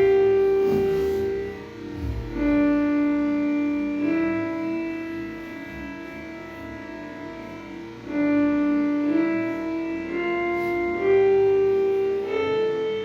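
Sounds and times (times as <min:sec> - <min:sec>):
rising melody line: 0:00.0 - 0:13.0
sustained instrumental notes: 0:00.0 - 0:13.0.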